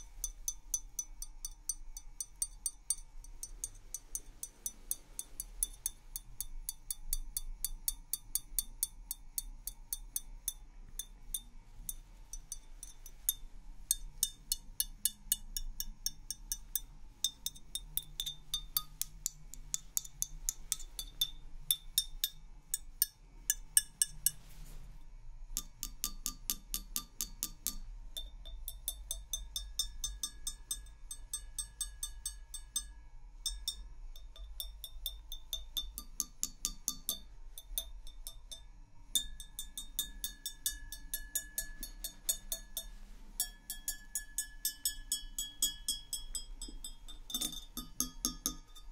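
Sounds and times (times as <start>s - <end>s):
tapping on glassware: 0.0s - 24.5s, 25.6s - 48.9s.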